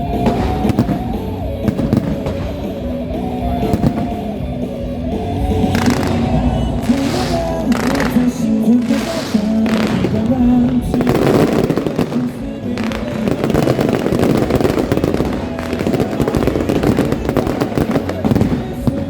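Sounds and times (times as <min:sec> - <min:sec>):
fireworks crackling and popping: 0:00.0 - 0:19.0
loud music: 0:00.0 - 0:19.0.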